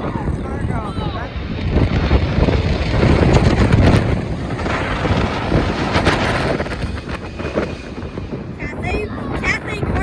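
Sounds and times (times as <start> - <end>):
jet engine blast: 0.0 - 10.0
wind buffeting microphone: 0.0 - 10.0.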